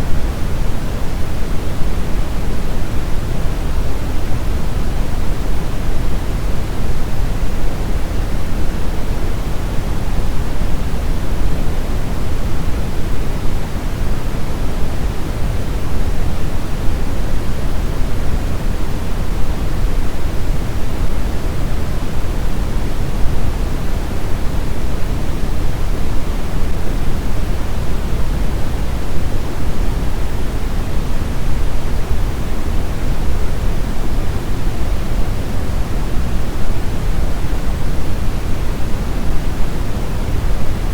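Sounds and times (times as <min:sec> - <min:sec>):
brown noise: 0:00.0 - 0:40.9.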